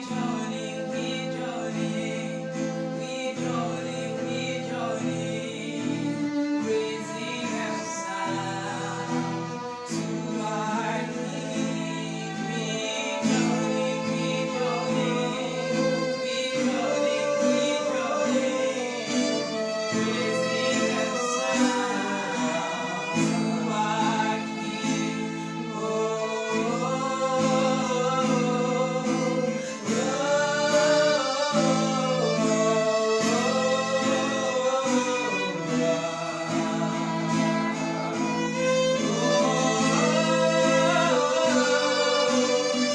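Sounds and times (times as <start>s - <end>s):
guitar: 0.0s - 42.9s
violin: 0.0s - 42.9s
woman singing: 0.0s - 42.9s.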